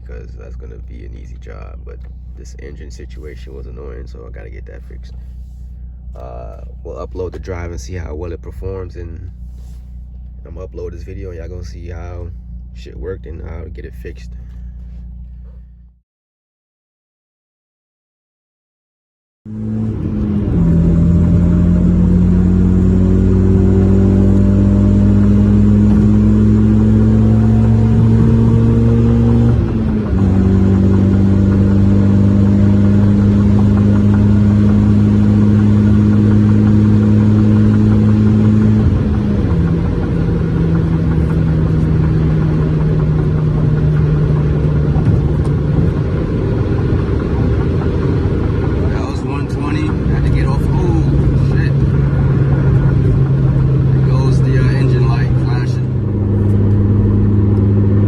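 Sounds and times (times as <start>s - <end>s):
car engine accelerating: 0.0s - 16.0s, 19.5s - 58.0s.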